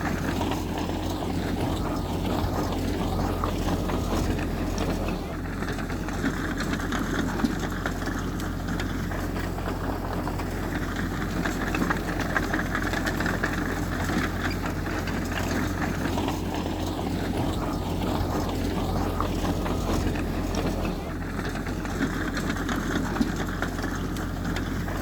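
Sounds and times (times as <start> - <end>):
heavy machinery engine running: 0.0 - 25.0.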